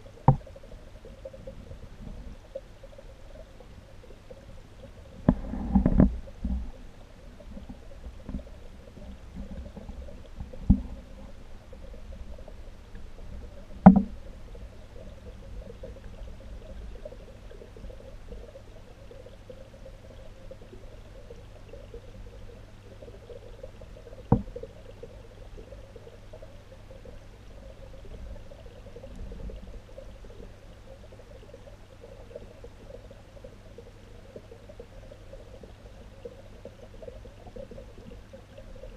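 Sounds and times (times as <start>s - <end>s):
faint trickling water: 0.0s - 38.9s
muffled underwater hum: 0.0s - 38.9s.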